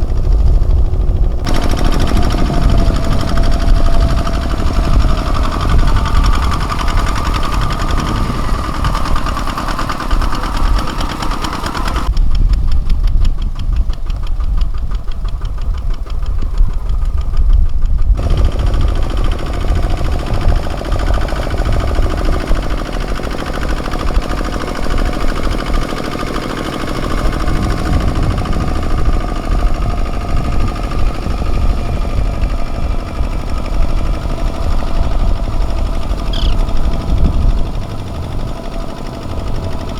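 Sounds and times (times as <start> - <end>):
diesel tractor engine knocking: 0.0 - 39.9.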